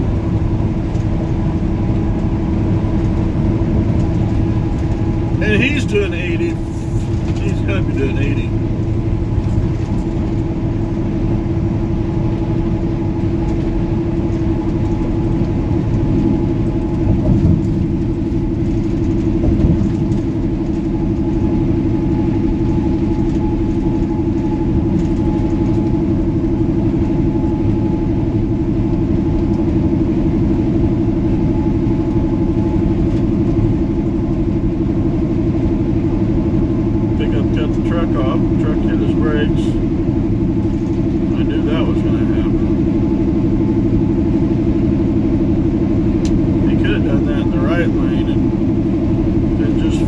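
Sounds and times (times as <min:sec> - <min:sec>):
road noise rumble: 0:00.0 - 0:50.0
truck diesel engine droning: 0:00.0 - 0:50.0.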